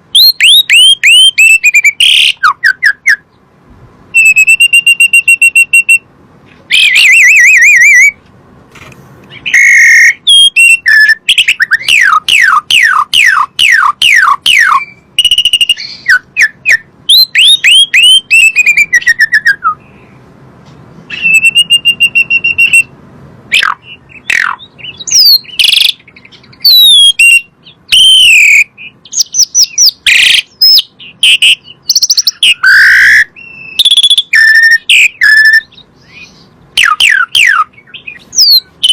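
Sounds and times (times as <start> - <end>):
starling singing: 0.0 - 3.5, 4.1 - 8.2, 9.3 - 20.2, 21.1 - 38.9.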